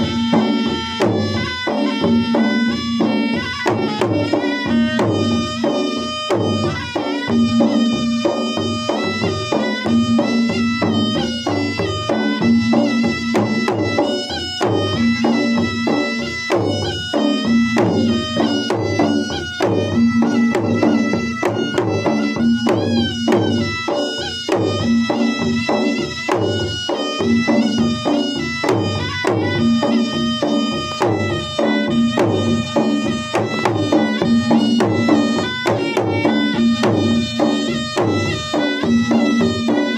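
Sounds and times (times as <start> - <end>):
drums beating fast rhythm: 0.0 - 39.9
held melody line: 0.0 - 39.9.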